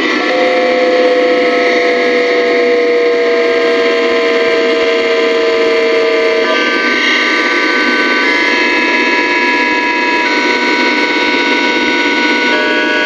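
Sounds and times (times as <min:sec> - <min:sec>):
train inverter whining: 0:00.0 - 0:13.0.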